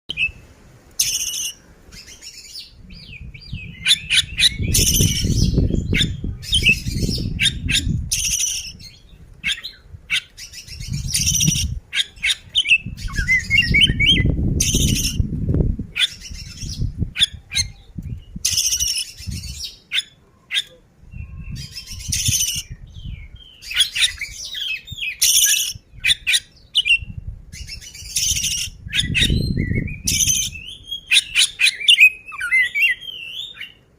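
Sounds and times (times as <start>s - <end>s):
magpie-robin singing: 1.0s - 15.3s, 16.0s - 33.9s.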